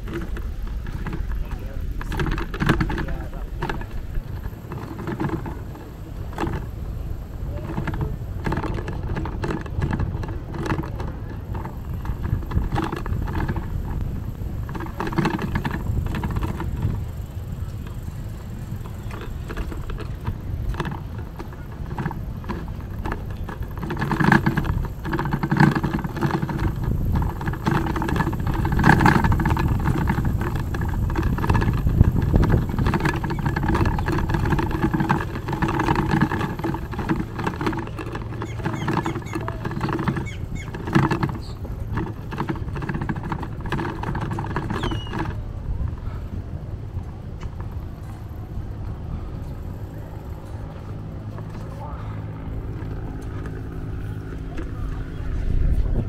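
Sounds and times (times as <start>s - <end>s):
wind on microphone: 0.0s - 50.8s, 52.0s - 56.0s
bicycle rolling over brick pavers: 0.0s - 56.0s
bike rattles and clicks: 0.0s - 56.0s.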